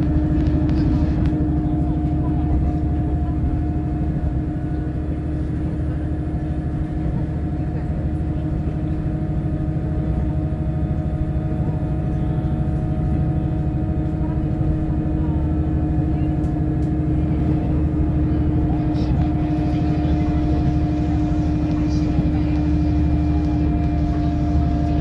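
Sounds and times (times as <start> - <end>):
railcar engine hum: 0.0 - 25.0
wheels rumbling on rails: 0.0 - 25.0.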